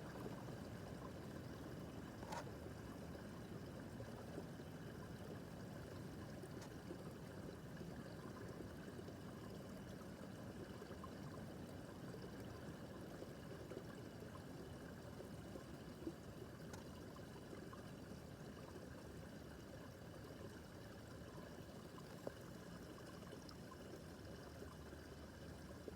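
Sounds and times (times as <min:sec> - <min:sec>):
brook babbling over stones: 0:00.0 - 0:25.9.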